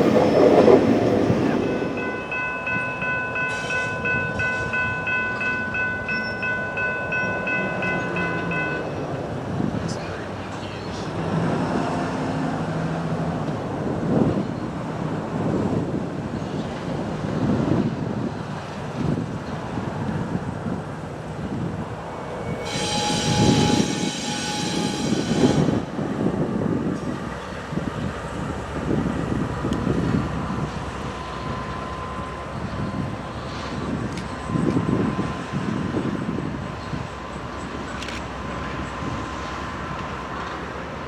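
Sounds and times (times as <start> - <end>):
freight train rumbling past: 0.0 - 41.0.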